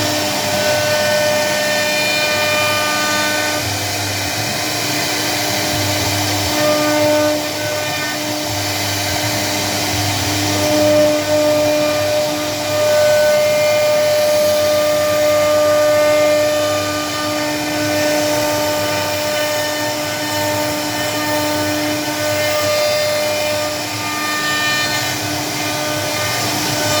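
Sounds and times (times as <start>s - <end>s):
cnc router carving: 0.0s - 27.0s.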